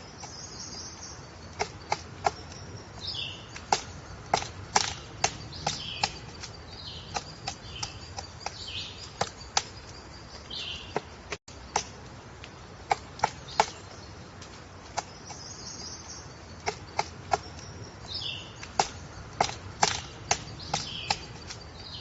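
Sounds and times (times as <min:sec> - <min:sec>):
woodpecker pecking at wood: 0:00.0 - 0:21.8.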